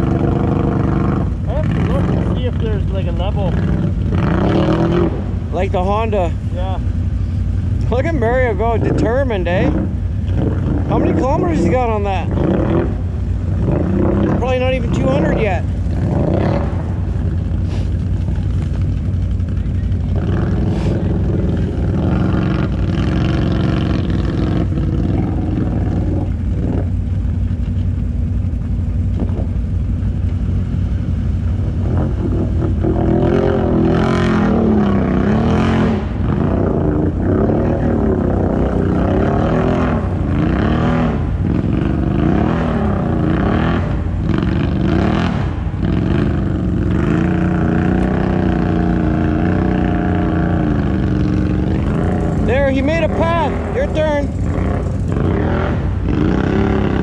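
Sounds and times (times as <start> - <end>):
atv engine revving: 0.0 - 57.0
atv engine running: 0.0 - 57.0.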